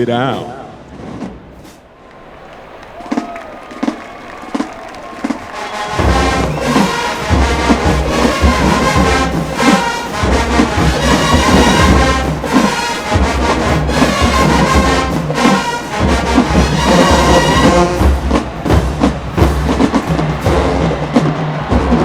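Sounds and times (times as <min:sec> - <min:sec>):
marching band playing dance tune: 0:02.6 - 0:22.0.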